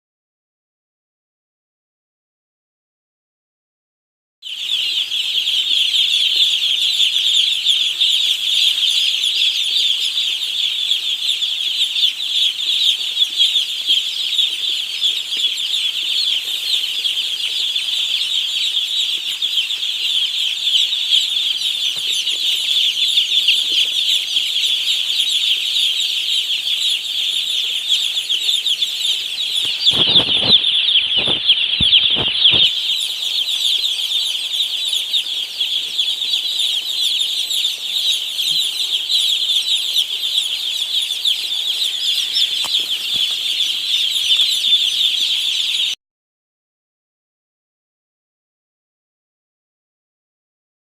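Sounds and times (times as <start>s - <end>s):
chicks peeping: 4.4s - 46.0s.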